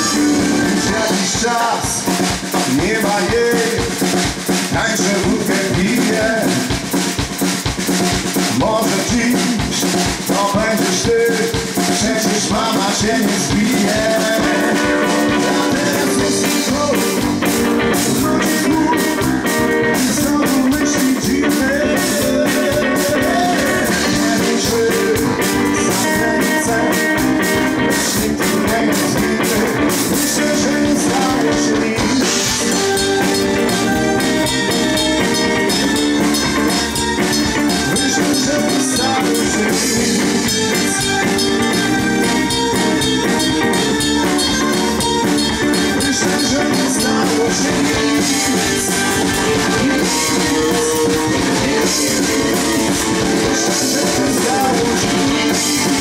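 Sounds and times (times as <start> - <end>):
man singing into microphone: 0.0 - 6.9, 8.4 - 36.1, 37.6 - 41.8, 45.7 - 56.0
drum kit: 0.0 - 56.0
electric guitar: 0.0 - 56.0
keyboard: 8.3 - 56.0.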